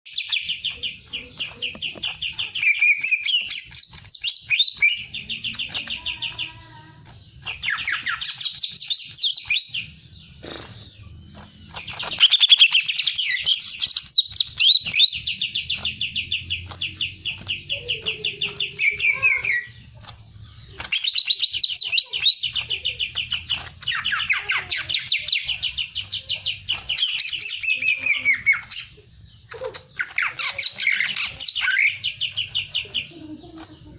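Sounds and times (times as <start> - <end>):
songbird trilling: 0.1 - 19.8, 20.4 - 33.6.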